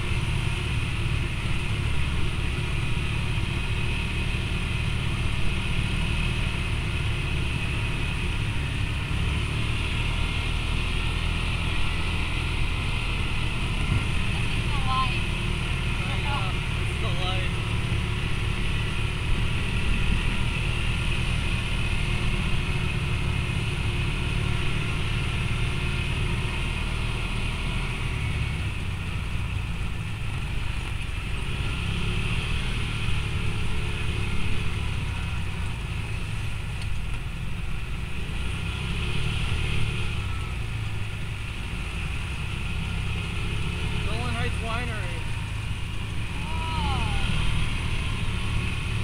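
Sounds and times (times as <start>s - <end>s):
utility vehicle engine running: 0.0s - 49.0s.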